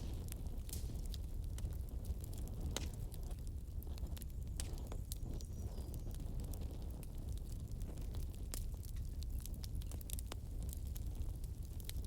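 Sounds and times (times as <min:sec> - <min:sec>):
fire crackles and pops: 0:00.0 - 0:12.0
low rumble of flames: 0:00.0 - 0:12.0.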